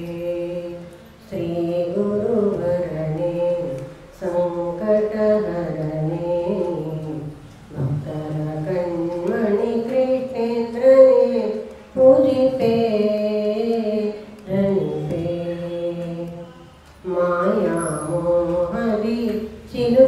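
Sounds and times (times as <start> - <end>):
elderly woman singing: 0.0 - 20.0.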